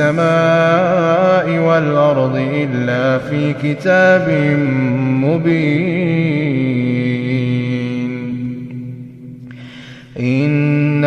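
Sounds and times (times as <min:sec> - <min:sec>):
man chanting recitation: 0:00.0 - 0:09.3, 0:10.1 - 0:11.0.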